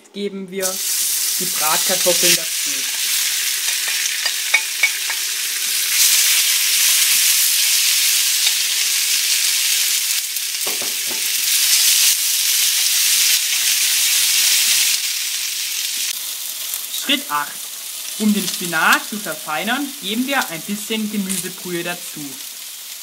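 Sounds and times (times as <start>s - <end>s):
potatoes sizzling in frying pan: 0.6s - 23.0s.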